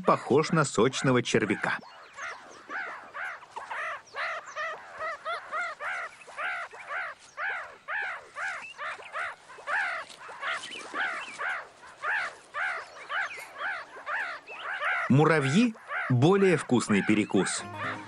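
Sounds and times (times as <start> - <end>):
meerkat pup squeaky calls: 0.0 - 18.0.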